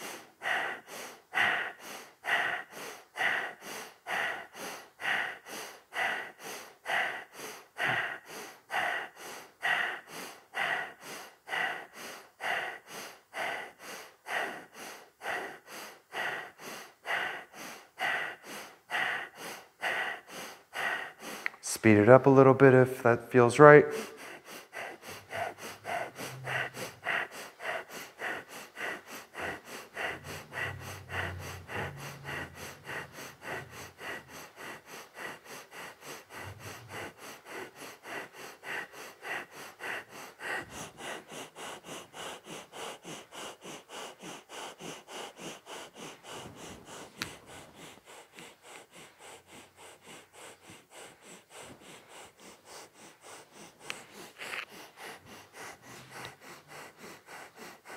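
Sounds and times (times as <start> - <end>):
rapid rhythmic nose breathing: 0.0 - 57.9.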